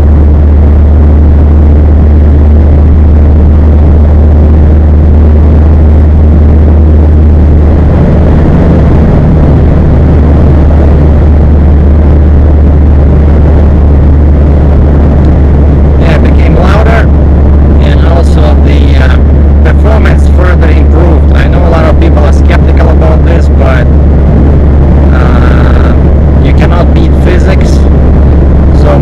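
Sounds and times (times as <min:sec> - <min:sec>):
deep exhaust rumble: 0:00.0 - 0:29.0
wind noise on microphone: 0:00.0 - 0:29.0.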